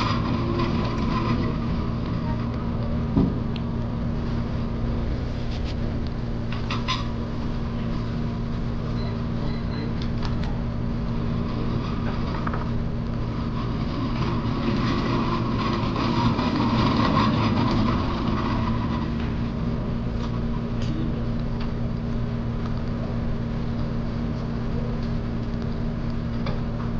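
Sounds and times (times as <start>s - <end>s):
steady mechanical hum: 0.0s - 26.9s.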